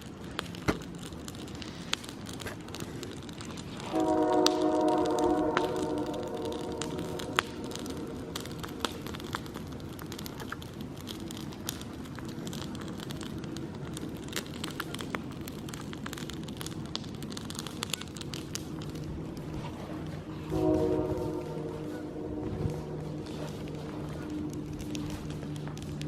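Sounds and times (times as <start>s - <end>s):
campfire crackling and popping: 0.0s - 26.0s
low background rumble: 2.8s - 26.0s.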